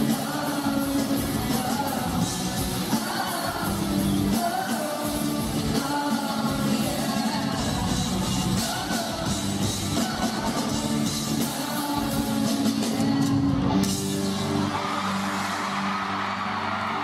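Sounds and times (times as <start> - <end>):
person singing: 0.0 - 14.6
drum kit: 0.0 - 15.5
guitars: 0.0 - 17.0.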